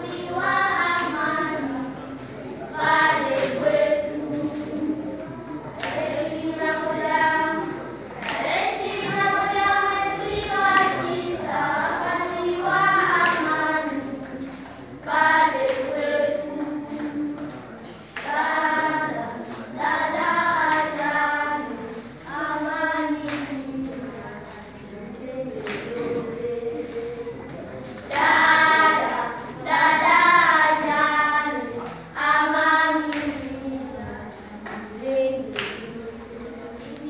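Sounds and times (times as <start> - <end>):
children singing in chorus: 0.0 - 37.0.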